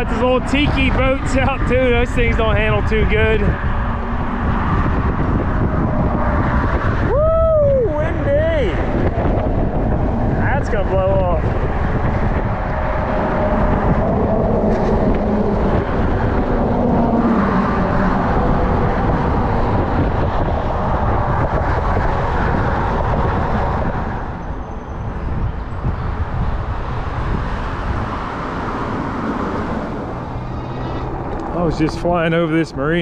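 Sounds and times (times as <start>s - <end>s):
road traffic passing: 0.0s - 33.0s
wind buffeting microphone: 0.0s - 33.0s.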